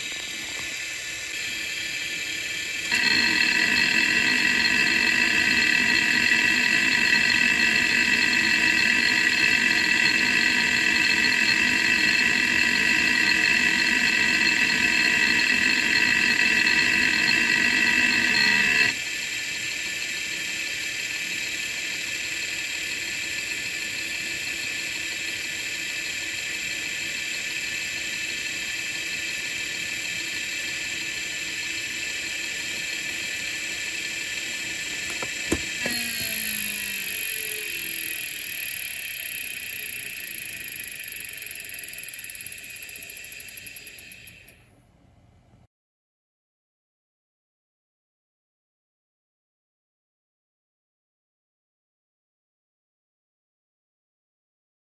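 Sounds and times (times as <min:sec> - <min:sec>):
hard drive high whine: 0:00.0 - 0:44.7.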